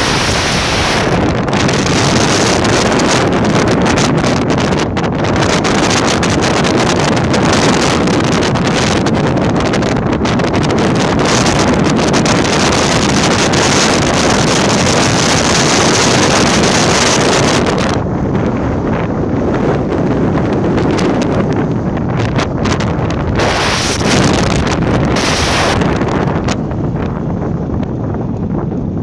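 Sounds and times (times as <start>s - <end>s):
road noise: 0.0s - 29.0s
wind noise on microphone: 0.0s - 29.0s.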